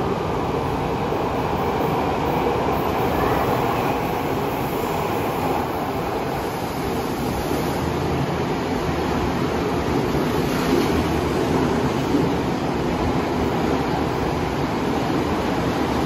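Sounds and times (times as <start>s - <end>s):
subway train wheels rumbling: 0.0s - 16.0s.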